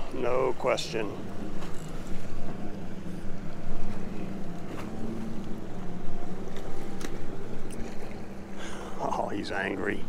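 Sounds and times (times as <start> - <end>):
boat motor hum: 0.0 - 10.0
water around boat: 0.0 - 10.0.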